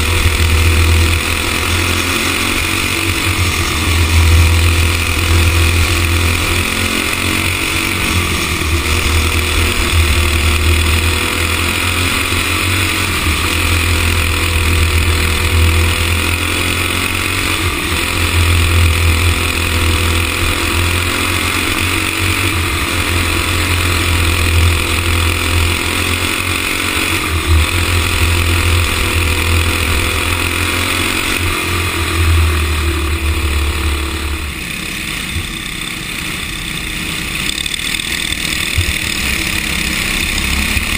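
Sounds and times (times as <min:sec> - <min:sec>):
go-kart engine running hard: 0:00.0 - 0:40.9.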